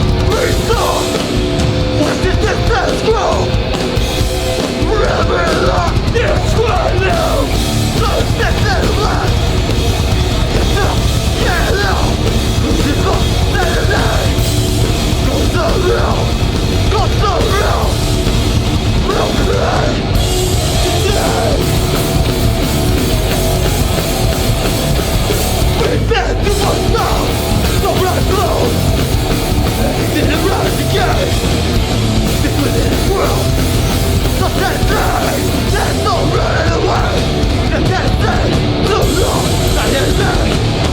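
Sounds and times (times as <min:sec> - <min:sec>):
loud live hardcore band playing: 0:00.0 - 0:40.9.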